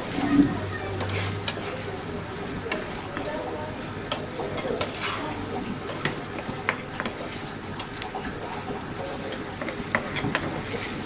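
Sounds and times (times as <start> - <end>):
curry bubbling and sizzling: 0.0 - 11.0.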